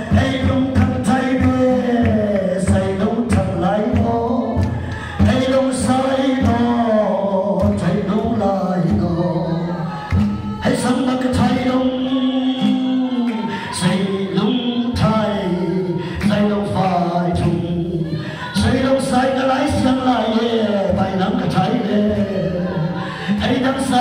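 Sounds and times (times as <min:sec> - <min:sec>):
congregation singing: 0:00.0 - 0:24.0
steady beat: 0:00.0 - 0:24.0.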